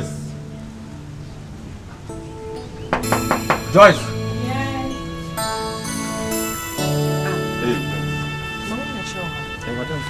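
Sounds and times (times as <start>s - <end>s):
film music of held chords: 0.0s - 10.0s.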